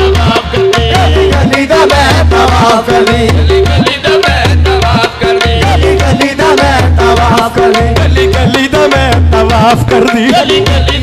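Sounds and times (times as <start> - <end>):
harmonium melody: 0.0 - 11.0
tabla rhythm: 0.0 - 11.0.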